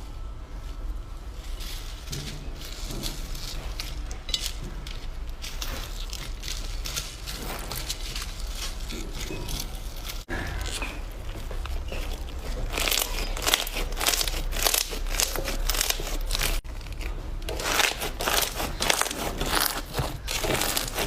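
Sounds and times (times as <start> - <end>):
slime crackling and crunching: 1.5 - 21.0.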